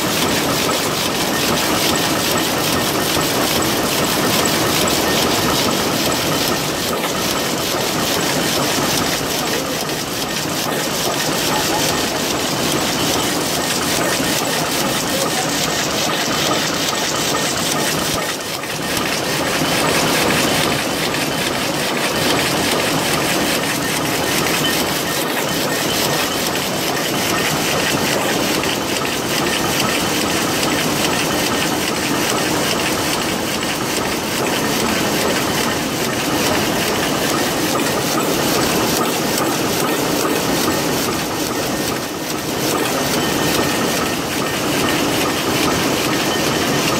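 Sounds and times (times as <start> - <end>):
weaving loom clattering: 0.0 - 46.9.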